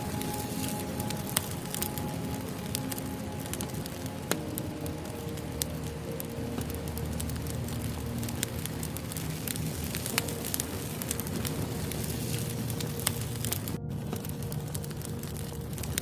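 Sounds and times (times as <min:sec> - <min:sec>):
firewood crackling and popping: 0:00.0 - 0:16.0
flame rushing: 0:00.0 - 0:16.0.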